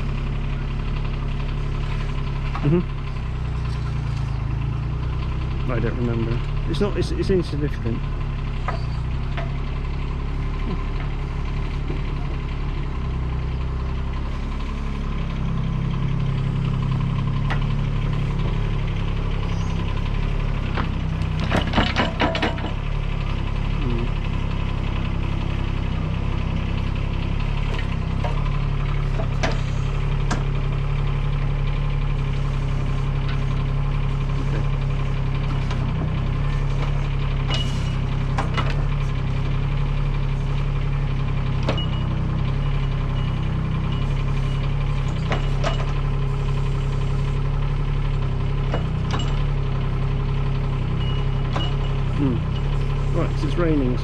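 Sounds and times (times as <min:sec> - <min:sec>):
diesel loader engine running: 0:00.0 - 0:54.0.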